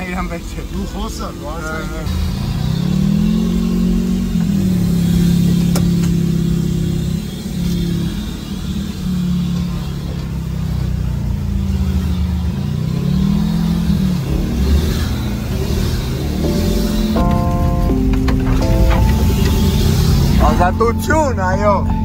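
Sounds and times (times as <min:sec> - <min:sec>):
engine running under load: 0:00.0 - 0:22.0.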